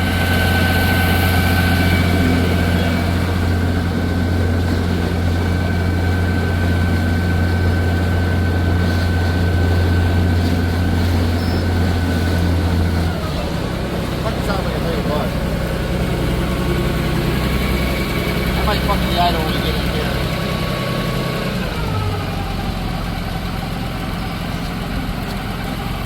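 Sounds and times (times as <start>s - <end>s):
thin steady whine: 0.0s - 21.0s
boat engine droning: 0.0s - 26.0s.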